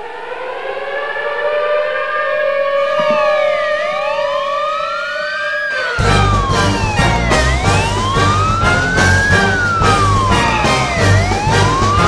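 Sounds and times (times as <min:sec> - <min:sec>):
civil defence siren howling: 0:00.0 - 0:12.0
wailing emergency vehicle siren: 0:00.0 - 0:12.0.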